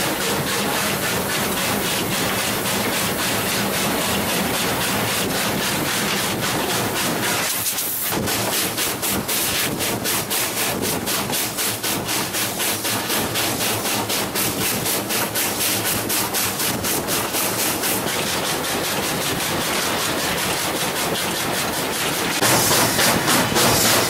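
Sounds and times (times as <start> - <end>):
steady steam hiss: 0.0 - 21.0, 21.8 - 24.0
steam locomotive chuffing: 0.0 - 24.0.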